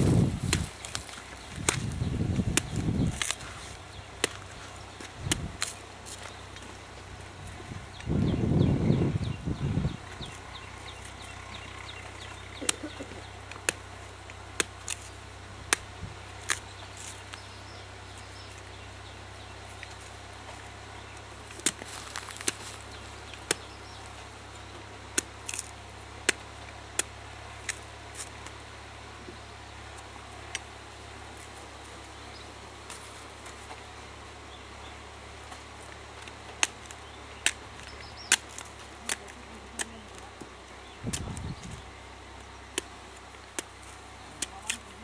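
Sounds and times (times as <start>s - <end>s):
sickle chopping fruit husks: 0.0s - 8.2s, 10.1s - 18.8s, 19.4s - 45.0s.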